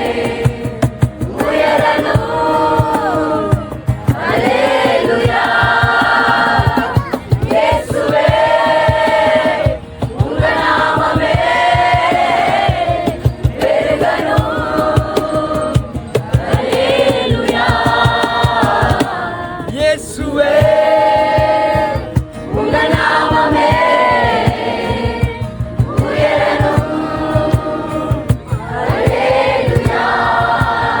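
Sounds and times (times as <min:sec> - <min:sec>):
fast regular beat: 0:00.0 - 0:31.0
group singing worship song: 0:00.0 - 0:31.0.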